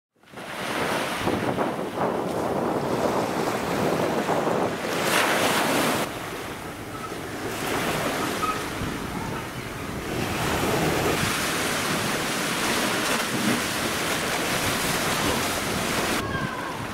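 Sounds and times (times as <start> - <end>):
small waves washing on beach: 0.2 - 16.9
water lapping against stone pier: 0.2 - 16.9
wind on microphone: 0.3 - 16.9.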